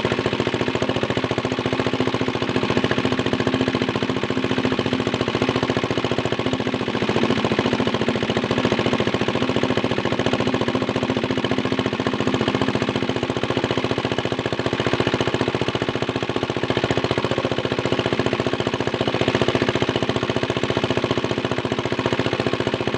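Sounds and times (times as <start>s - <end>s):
small diesel engine chugging: 0.0s - 22.9s.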